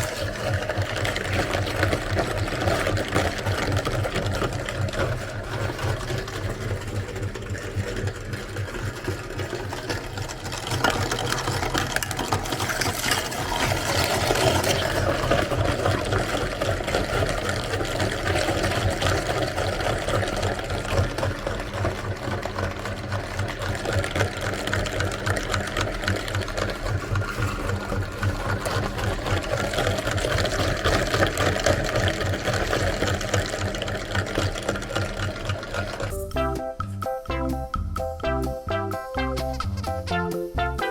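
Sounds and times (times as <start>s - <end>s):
electric meat grinder running: 0.0s - 36.9s.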